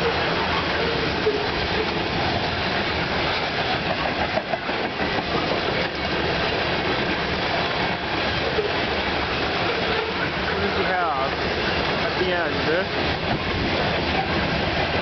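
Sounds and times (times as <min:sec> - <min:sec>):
steel wheels rushing on rail: 0:00.0 - 0:15.0.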